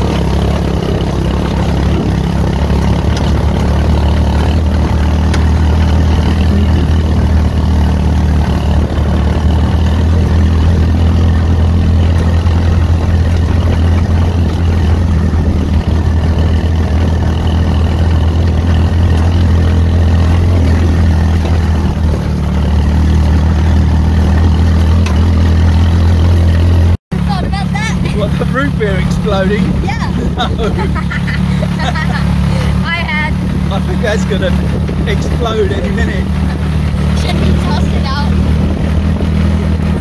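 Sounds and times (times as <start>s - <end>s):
kart engine droning: 0.0s - 40.0s.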